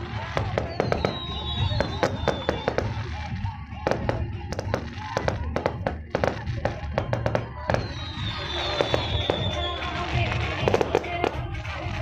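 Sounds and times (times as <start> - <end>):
fireworks crackling bangs: 0.0 - 12.0
music: 0.0 - 12.0
firework whistle: 0.1 - 11.1.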